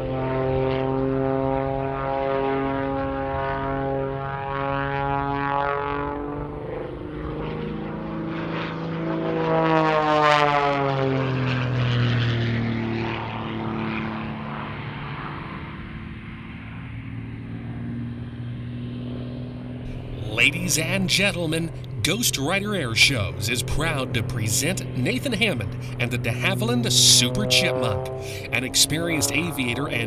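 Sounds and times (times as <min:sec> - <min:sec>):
propeller aircraft flying past: 0:00.0 - 0:30.0.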